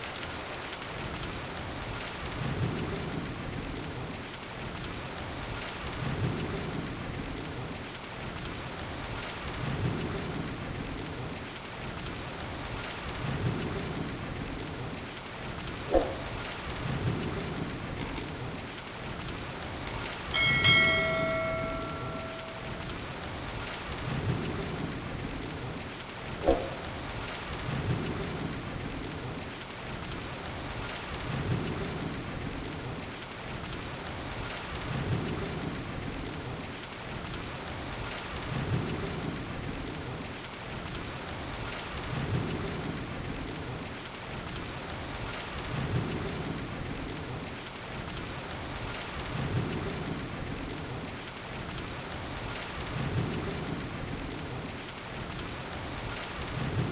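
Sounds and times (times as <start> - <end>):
heavy rain hissing: 0.0 - 56.9.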